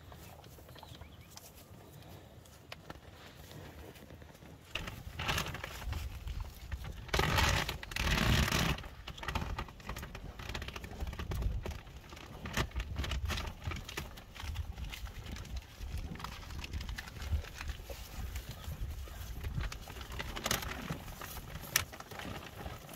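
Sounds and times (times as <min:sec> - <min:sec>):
cattle munching grass: 0:00.0 - 0:22.9.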